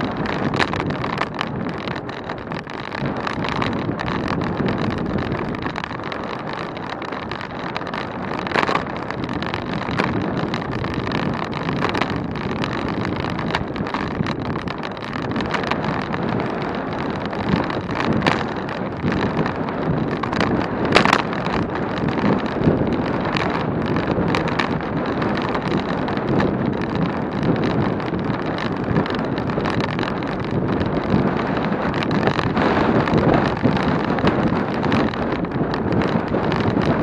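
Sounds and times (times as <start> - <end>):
road noise: 0.0 - 37.0
wind buffeting microphone: 0.0 - 37.0.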